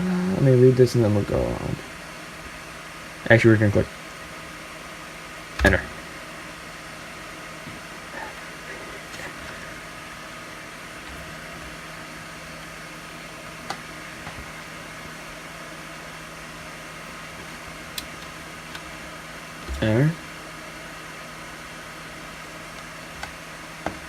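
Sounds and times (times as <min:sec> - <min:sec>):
computer fans whirring: 0:00.0 - 0:24.0
low hum: 0:00.0 - 0:24.0.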